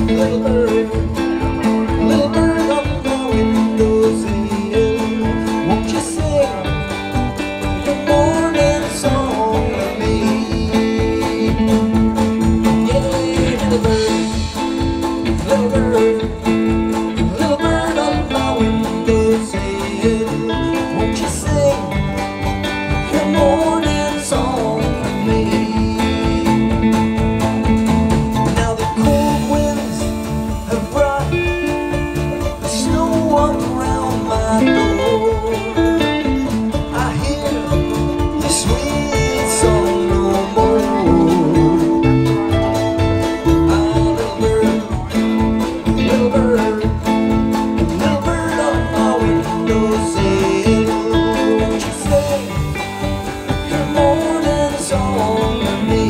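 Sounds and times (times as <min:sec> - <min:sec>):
acoustic folk-country band playing: 0:00.0 - 0:56.0.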